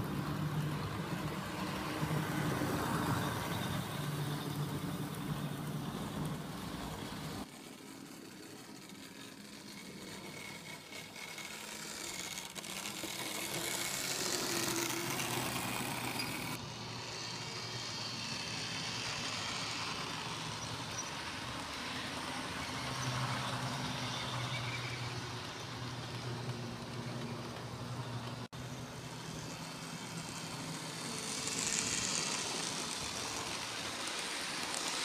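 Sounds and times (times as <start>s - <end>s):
model trains running on track: 0.0s - 35.0s.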